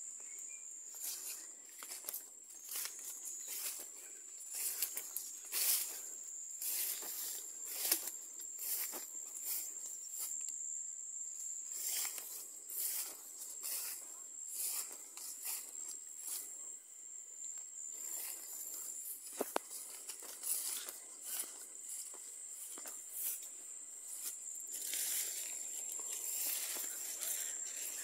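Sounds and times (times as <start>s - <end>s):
leaves and grass rustling: 0.8s - 10.5s, 11.5s - 16.6s, 17.8s - 28.0s.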